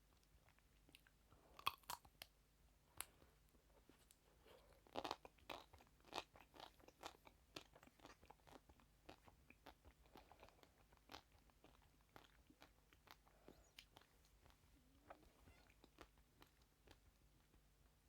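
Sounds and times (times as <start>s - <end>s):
chewing crunchy sweets: 0.1s - 2.4s, 3.8s - 17.7s.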